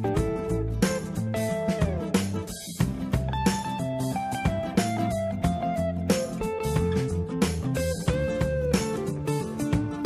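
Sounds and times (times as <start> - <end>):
bass line with steady beat: 0.0 - 10.0
guitar: 0.0 - 10.0.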